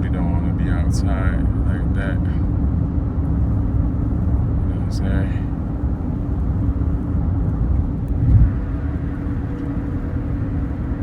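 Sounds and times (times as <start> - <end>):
car interior road rumble: 0.1 - 11.0.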